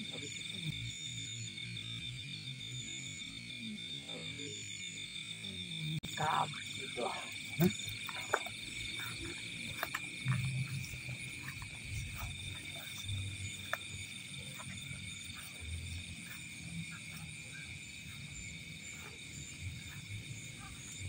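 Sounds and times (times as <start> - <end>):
insects and frogs trilling: 0.0 - 21.0.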